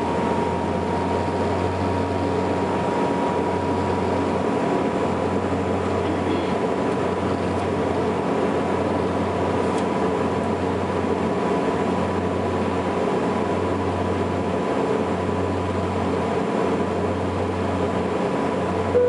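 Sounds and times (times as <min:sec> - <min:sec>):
thin steady engine whine: 0:00.0 - 0:19.0
turboprop engines droning in cabin: 0:00.0 - 0:19.0.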